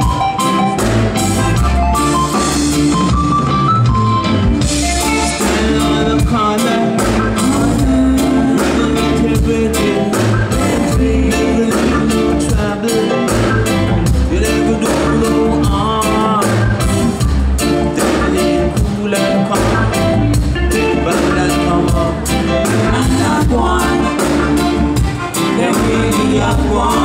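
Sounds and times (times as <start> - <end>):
person singing lead vocals: 0.0 - 3.0, 4.8 - 27.0
live reggae band playing: 0.0 - 27.0.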